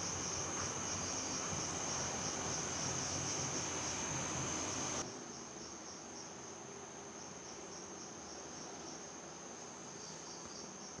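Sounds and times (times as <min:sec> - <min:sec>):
crickets trilling: 0:00.0 - 0:11.0
low room hiss: 0:00.0 - 0:11.0.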